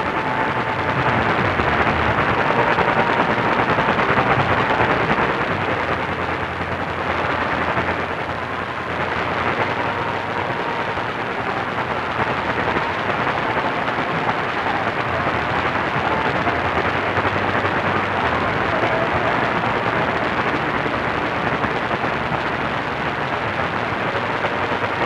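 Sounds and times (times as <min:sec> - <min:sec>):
radio static hiss and crackle: 0:00.0 - 0:25.0.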